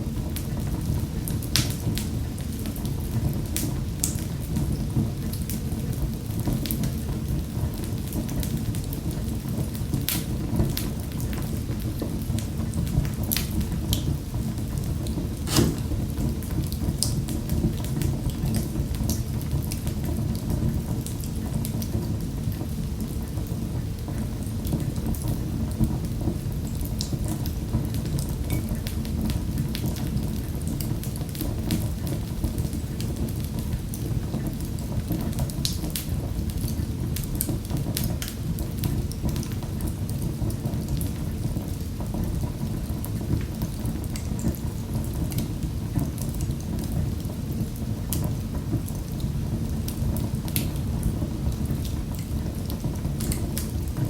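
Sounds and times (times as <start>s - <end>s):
low roar of fire flames: 0.0s - 54.0s
fire crackling and snapping: 0.1s - 54.0s.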